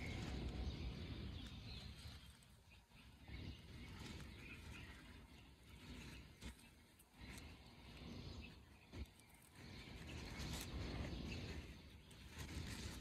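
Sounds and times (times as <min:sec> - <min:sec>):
faint rustling of leaves: 0:00.0 - 0:13.0
low outdoor rumble: 0:00.0 - 0:13.0.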